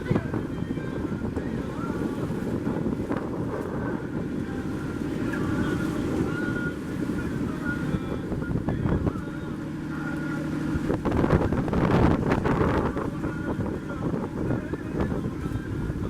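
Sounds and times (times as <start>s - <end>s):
water washing under boat: 0.0s - 16.0s
wind buffeting microphone: 0.0s - 16.0s.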